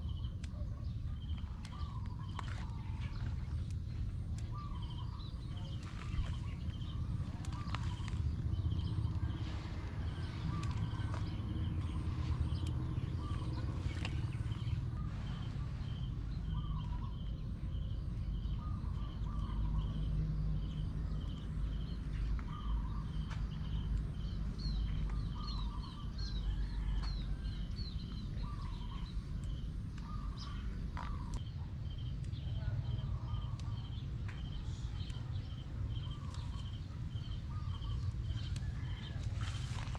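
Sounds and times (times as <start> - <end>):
birds chirping: 0.0 - 39.9
constant low rumble: 0.0 - 39.9.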